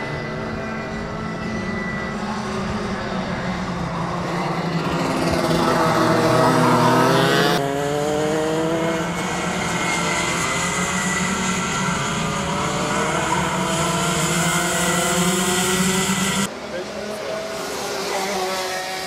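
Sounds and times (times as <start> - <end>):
kart engines at high revs: 0.0 - 19.0.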